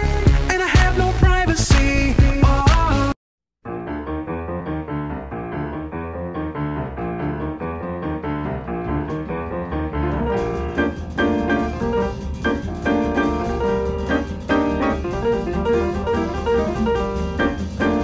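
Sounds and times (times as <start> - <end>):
piano background music: 0.0 - 18.0.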